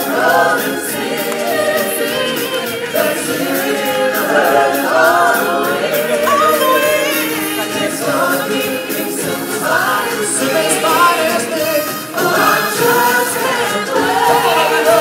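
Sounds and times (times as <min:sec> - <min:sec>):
group singing live stage music: 0:00.0 - 0:15.0.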